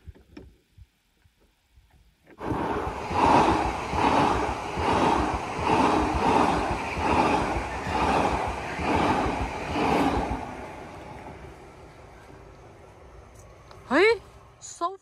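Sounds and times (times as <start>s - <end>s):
electric train rushing past: 2.4s - 14.8s.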